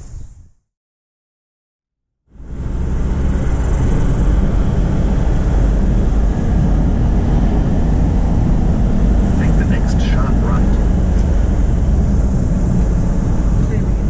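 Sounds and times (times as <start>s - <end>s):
car interior road rumble: 2.3s - 14.0s.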